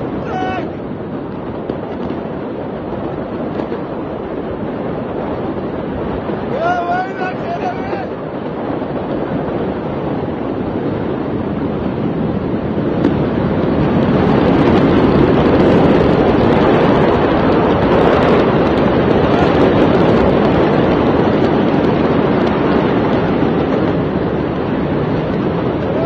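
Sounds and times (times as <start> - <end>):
heavy rain: 0.0 - 26.0
storm wind: 0.0 - 26.0.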